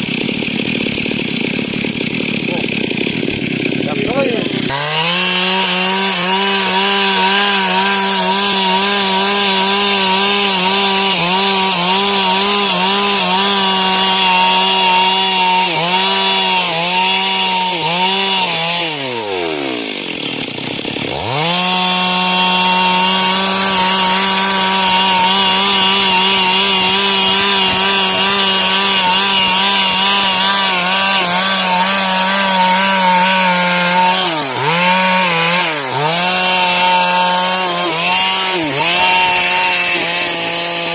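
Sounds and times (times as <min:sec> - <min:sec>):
chainsaw cutting through wood: 0:00.0 - 0:40.9.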